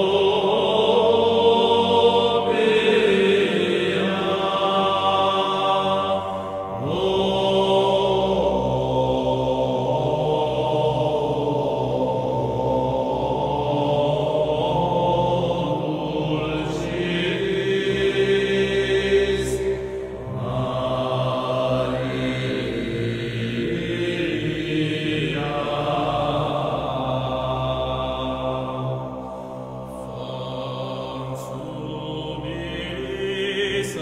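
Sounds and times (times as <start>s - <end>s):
slow sung chant: 0.0s - 34.0s.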